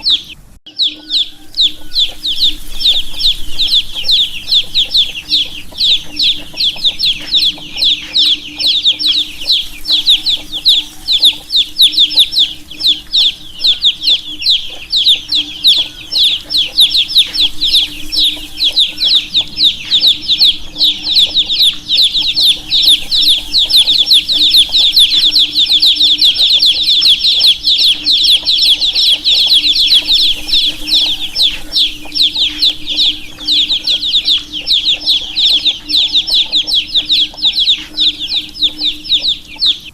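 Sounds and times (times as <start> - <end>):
baby chicks chirping: 0.0 - 39.9
faint steady hum: 0.0 - 39.9.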